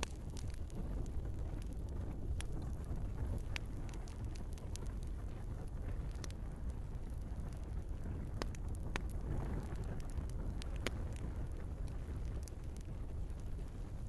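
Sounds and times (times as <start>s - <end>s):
fire flames rumbling: 0.0s - 14.0s
wood fire crackles and pops: 0.0s - 14.0s.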